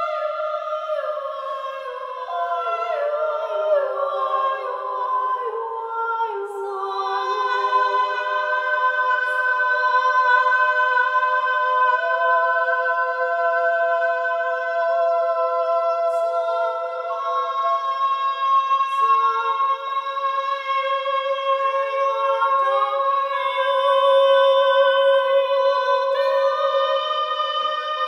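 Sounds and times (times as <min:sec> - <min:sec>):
women singing wordless chord: 0:00.0 - 0:28.0.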